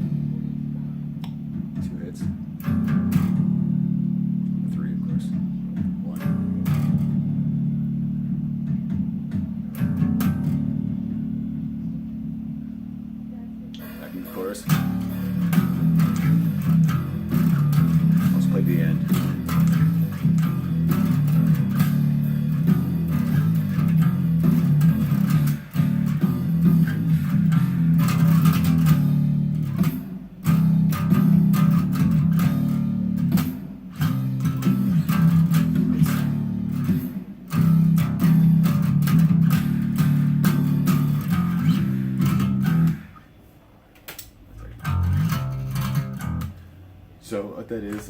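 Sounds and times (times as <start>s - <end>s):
bass guitar playing low notes: 0.0s - 48.0s.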